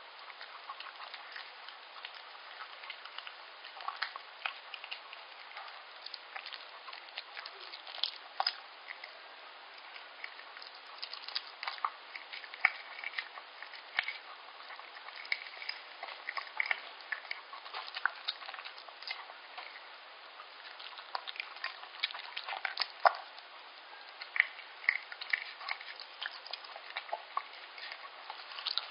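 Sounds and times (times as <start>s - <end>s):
dog chewing and licking: 0.0s - 28.9s.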